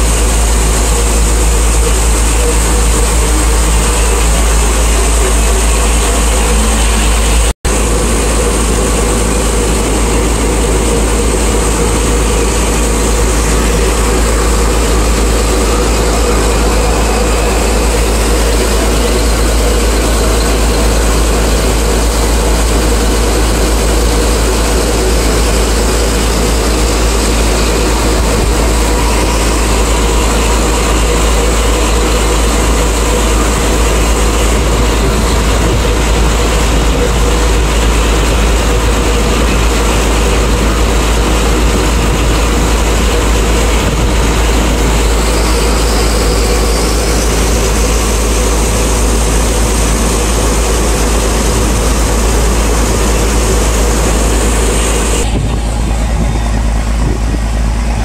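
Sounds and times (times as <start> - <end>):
boat engine droning: 0.0 - 58.0
water rushing along hull: 0.0 - 58.0.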